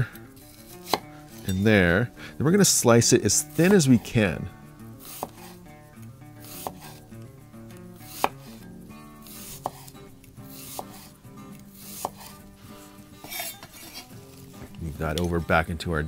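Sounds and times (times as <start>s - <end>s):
knife slicing onion: 0.1s - 1.8s, 2.7s - 14.6s.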